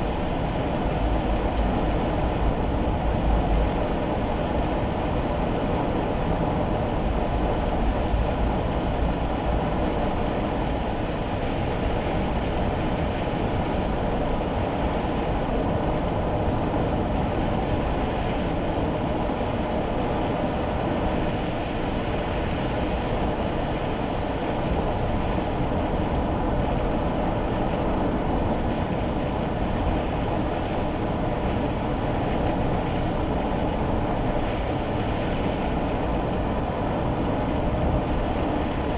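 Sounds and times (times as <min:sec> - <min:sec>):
road and engine rumble in car: 0:00.0 - 0:38.9.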